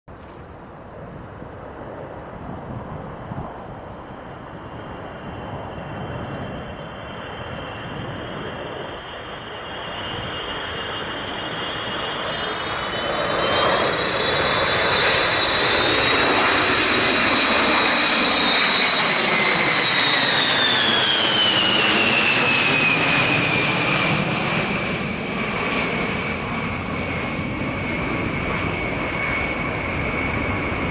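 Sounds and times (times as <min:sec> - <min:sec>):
high jet whine: 0:00.1 - 0:30.9
jet bomber flying past: 0:00.1 - 0:30.9.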